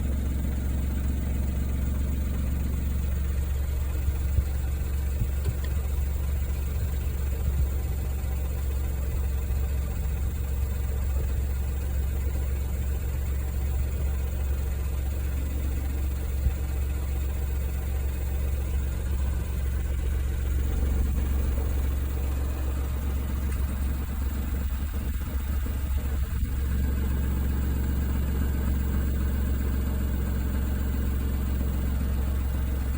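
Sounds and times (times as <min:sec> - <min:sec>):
car engine idling: 0:00.0 - 0:32.9
exhaust rattling: 0:00.0 - 0:32.9.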